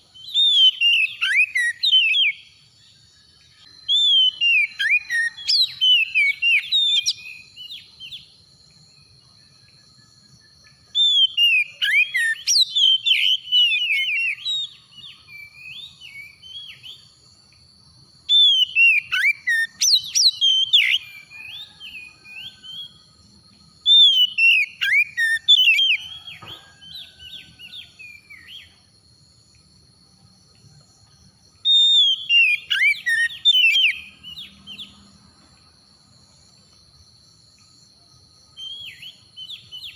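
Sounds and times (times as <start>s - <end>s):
songbird whistling song: 0.0s - 29.0s, 30.7s - 35.1s, 38.5s - 39.9s.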